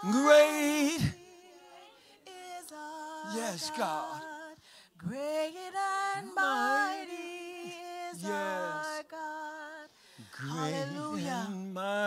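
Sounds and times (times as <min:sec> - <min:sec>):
voices singing a worship song: 0:00.0 - 0:12.0.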